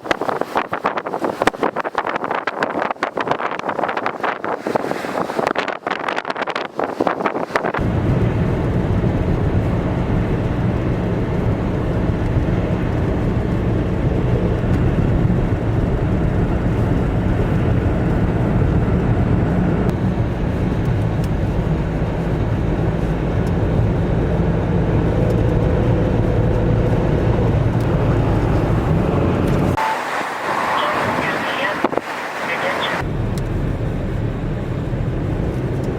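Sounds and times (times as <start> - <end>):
vehicle engine and tyre noise: 0.0 - 35.9
wind buffeting microphone: 0.0 - 35.9.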